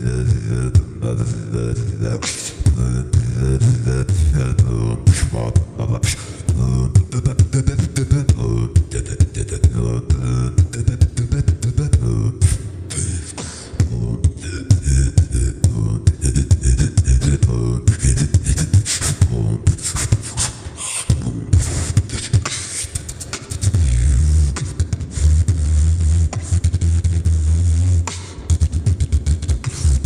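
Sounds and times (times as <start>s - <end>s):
person beatboxing: 0.0s - 30.0s.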